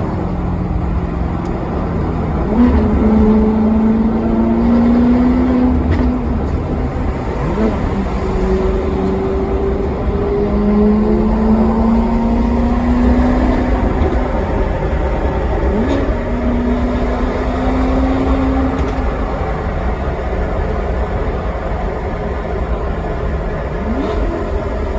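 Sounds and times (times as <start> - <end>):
car engine rumbling while driving: 0.0 - 24.9.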